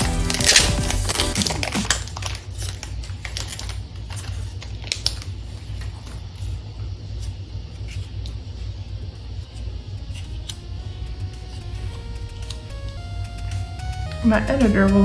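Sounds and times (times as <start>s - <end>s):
trading cards ticking and sliding: 0.0s - 15.0s
steady low hum: 0.1s - 15.0s.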